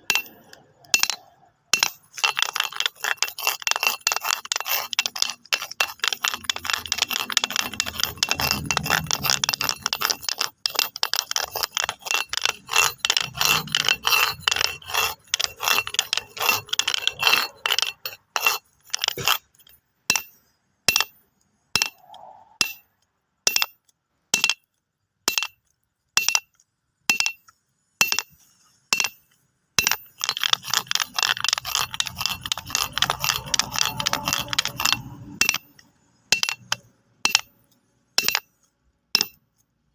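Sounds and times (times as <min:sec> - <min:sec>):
stones clinking and scraping: 0:00.0 - 0:21.2, 0:21.8 - 0:22.8, 0:23.5 - 0:39.8.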